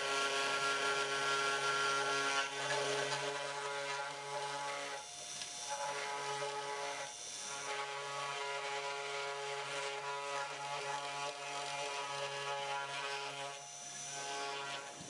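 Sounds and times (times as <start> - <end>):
router motor whine: 0.0 - 15.0.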